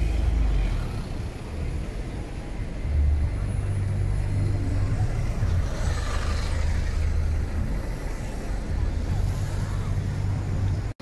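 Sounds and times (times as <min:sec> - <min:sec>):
street noise: 0:00.0 - 0:11.0
traffic engine rumble: 0:00.0 - 0:11.0.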